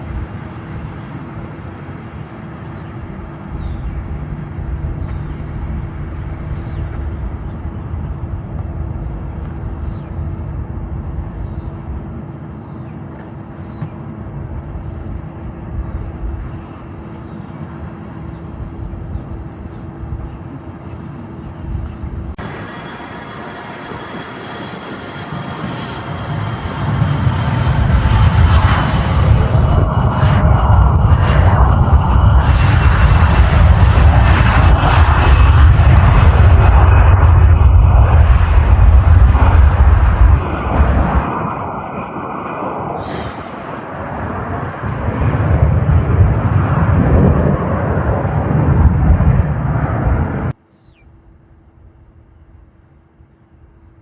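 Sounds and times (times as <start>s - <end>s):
rumbling vehicle noise: 0.0s - 50.6s.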